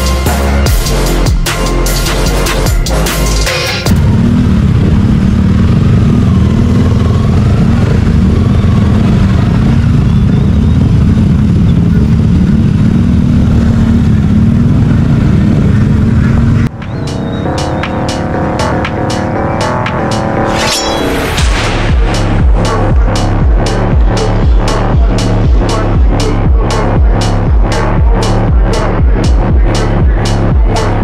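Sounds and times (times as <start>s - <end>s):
motorcycle engines rumbling: 0.0s - 31.0s.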